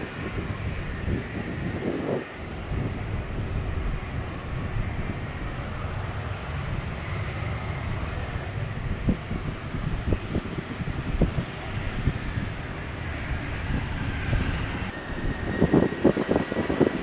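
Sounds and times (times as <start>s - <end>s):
jet aircraft rumble: 0.0s - 17.0s
wind buffeting microphone: 0.0s - 17.0s.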